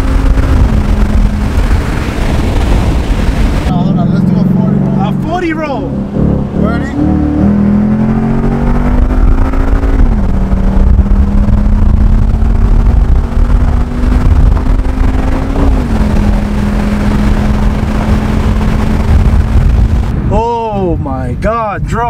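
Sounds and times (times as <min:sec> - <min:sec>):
car engine accelerating: 0:00.0 - 0:21.4.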